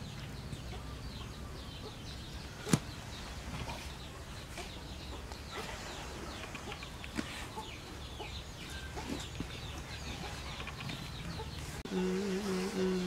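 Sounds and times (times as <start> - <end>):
chickens clucking and peeping: 0.0 - 13.0
low steady hum: 0.0 - 13.0.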